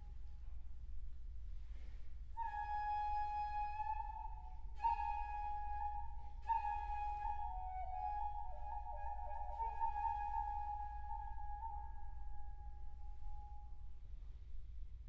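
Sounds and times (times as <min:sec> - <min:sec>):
breathy bamboo flute note: 0:01.8 - 0:14.4.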